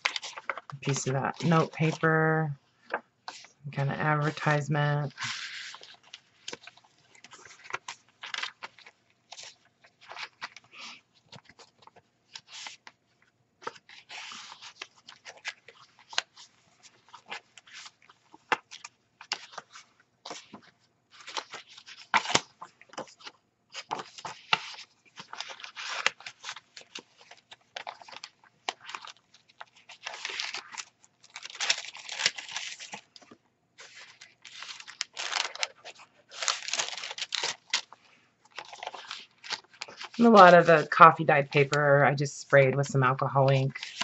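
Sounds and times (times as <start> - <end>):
paper rustling and crinkling: 0.0 - 2.2, 2.8 - 44.0.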